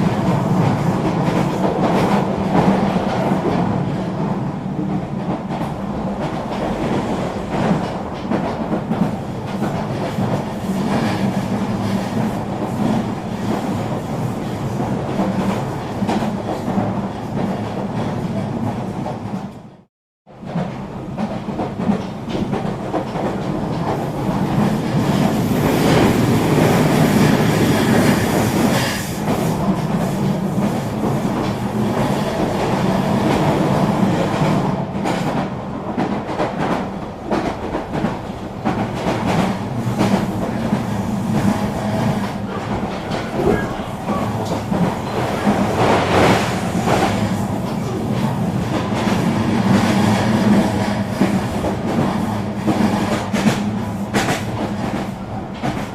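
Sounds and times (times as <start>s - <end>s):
electric train rumbling: 0.0s - 55.9s.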